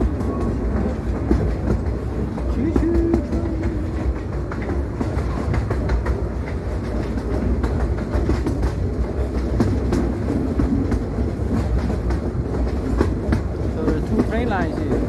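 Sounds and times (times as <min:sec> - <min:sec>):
train rumble: 0:00.0 - 0:15.0
wheels clattering on track: 0:00.0 - 0:15.0.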